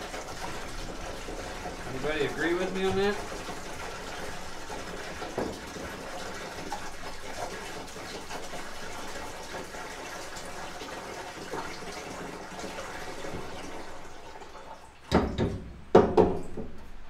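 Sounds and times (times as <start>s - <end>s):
liquid pouring and splashing: 0.0s - 15.6s.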